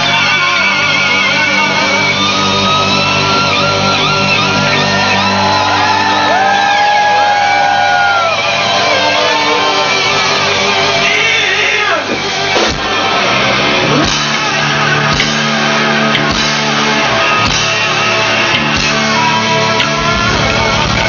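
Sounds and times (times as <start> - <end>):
electric guitar sliding down: 0.0 - 21.0
live rock band playing: 0.0 - 21.0.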